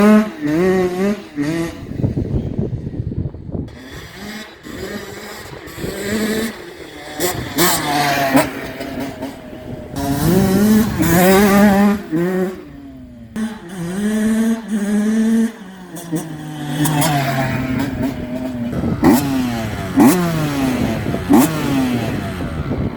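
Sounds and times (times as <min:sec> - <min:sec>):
two-stroke engine revving: 0:00.0 - 0:22.9.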